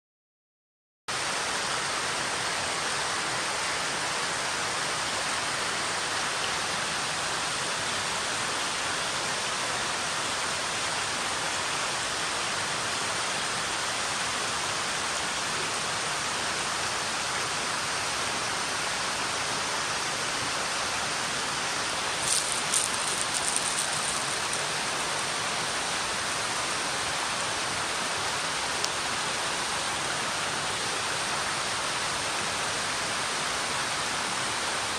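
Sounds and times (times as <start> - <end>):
stream rushing over rocks: 1.1 - 34.9.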